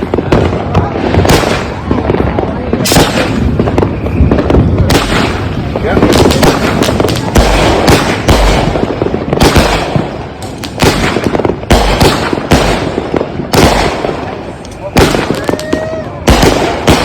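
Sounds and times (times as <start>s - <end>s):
firework booming bursts: 0.0s - 17.0s
firework crackling: 0.0s - 17.0s.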